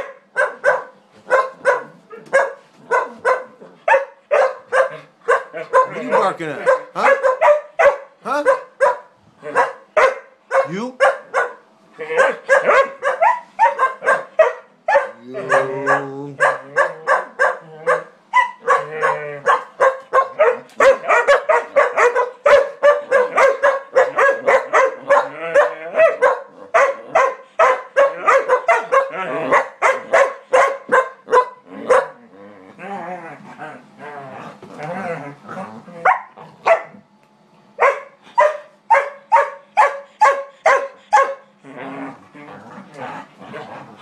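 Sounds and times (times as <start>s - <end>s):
dogs barking high-pitched: 0.0s - 32.2s, 36.0s - 37.0s, 37.8s - 41.6s.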